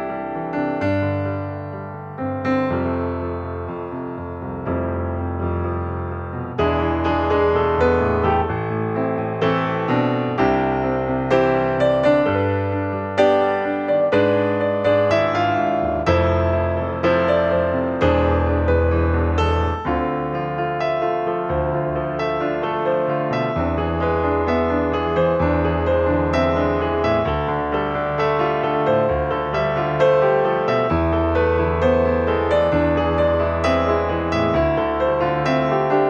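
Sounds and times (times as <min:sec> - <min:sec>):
gentle piano music: 0:00.0 - 0:36.0.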